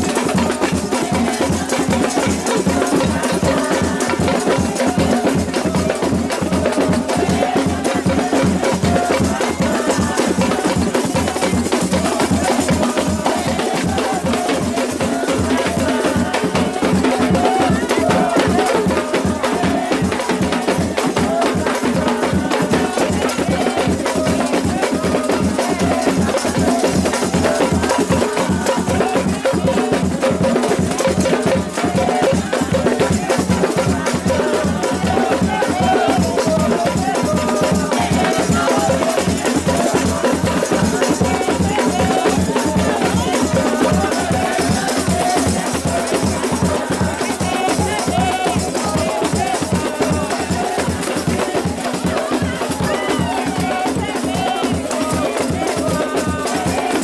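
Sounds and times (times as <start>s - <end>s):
group singing: 0.0s - 57.0s
pandeiros jingling in steady beat: 0.0s - 57.0s.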